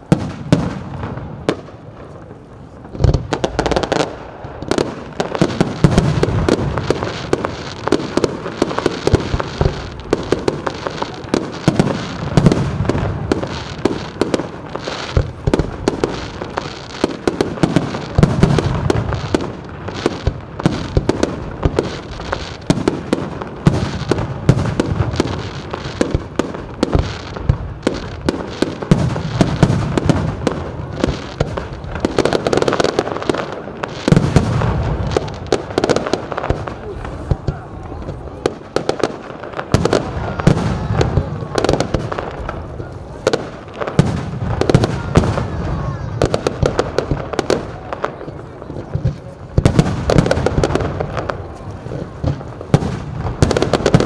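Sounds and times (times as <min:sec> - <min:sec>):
fireworks booming and cracking: 0:00.0 - 0:54.0.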